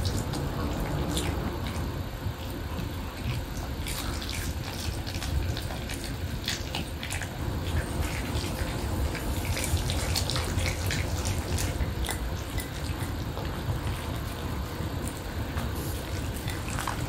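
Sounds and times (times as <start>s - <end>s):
dogs chewing and licking: 0.0s - 17.0s
lapping from metal bowl: 0.0s - 17.0s.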